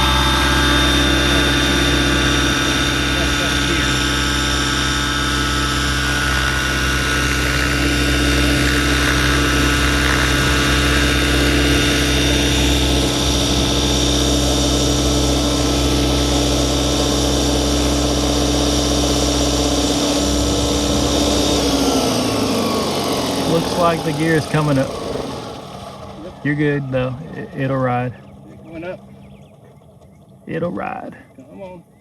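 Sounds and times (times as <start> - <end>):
model helicopter motor whine: 0.0 - 31.0.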